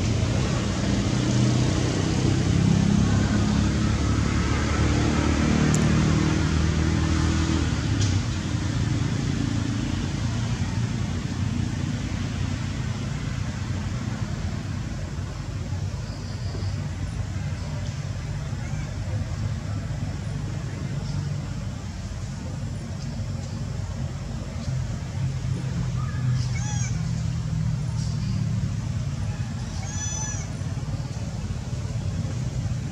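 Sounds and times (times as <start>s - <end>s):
vehicle engine rumbling: 0.0s - 32.9s.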